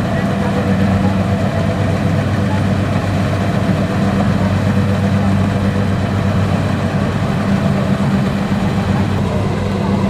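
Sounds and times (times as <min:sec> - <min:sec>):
combine harvester engine humming: 0:00.0 - 0:10.0.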